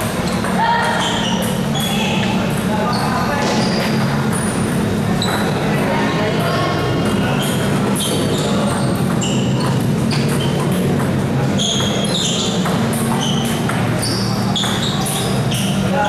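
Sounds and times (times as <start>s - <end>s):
table tennis ball pinging: 0.0s - 5.8s, 6.8s - 15.9s.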